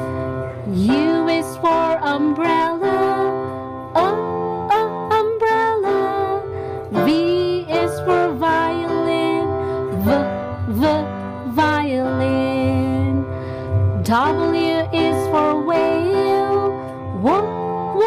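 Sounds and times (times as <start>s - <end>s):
person singing: 0.0s - 18.0s.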